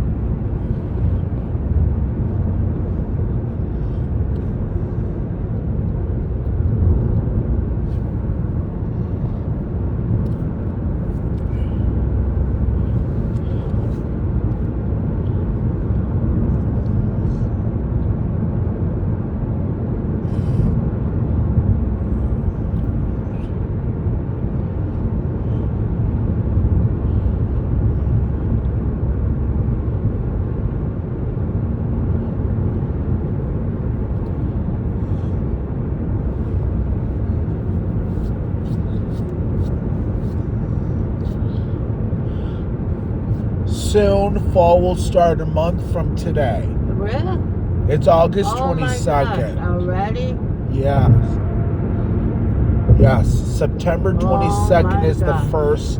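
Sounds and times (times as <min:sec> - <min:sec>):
car cabin road and engine noise: 0:00.0 - 0:55.9.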